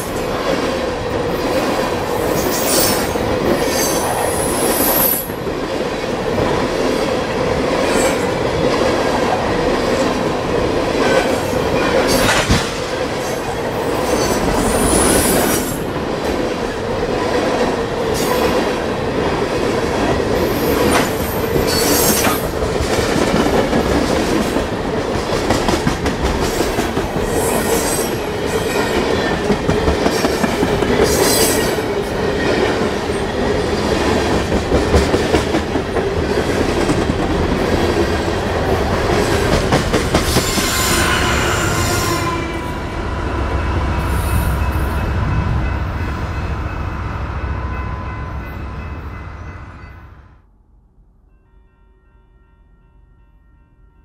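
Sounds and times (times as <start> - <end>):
train wheels rolling on rails: 0.0 - 49.1.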